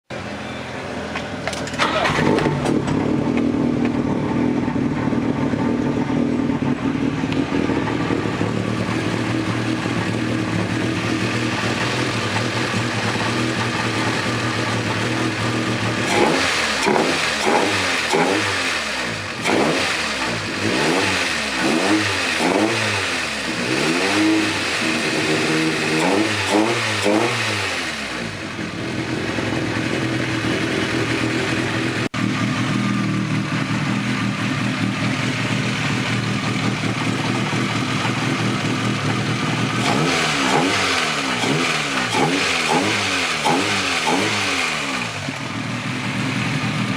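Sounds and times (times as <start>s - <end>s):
car engine idling and revving: 0.1s - 46.9s.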